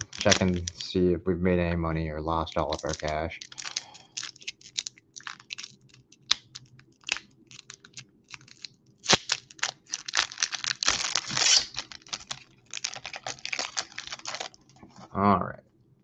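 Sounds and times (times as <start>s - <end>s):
foil wrapper crinkling and tearing: 0.0s - 0.8s, 2.6s - 14.8s.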